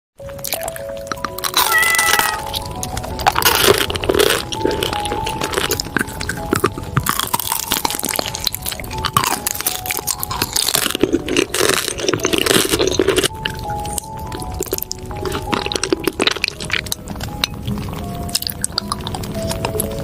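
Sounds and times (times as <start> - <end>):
chewing crunchy food: 0.2 - 20.0
faint background melody: 0.2 - 20.0.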